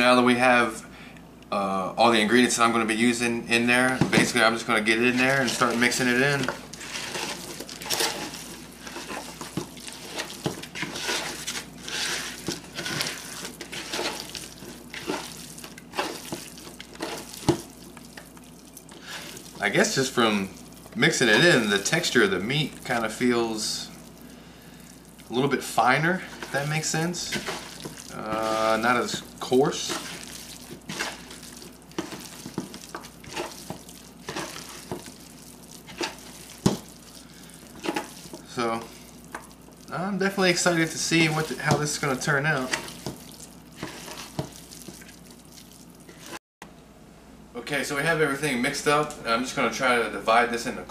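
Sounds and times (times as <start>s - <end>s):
wet squelching of meat kneaded: 3.8s - 46.4s.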